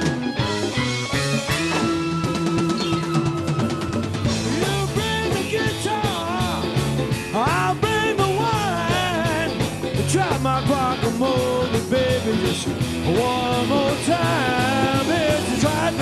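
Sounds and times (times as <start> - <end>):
bass groove: 0.0 - 16.0
drum kit: 0.0 - 16.0
electric guitars: 0.0 - 16.0
keyboards: 0.0 - 16.0.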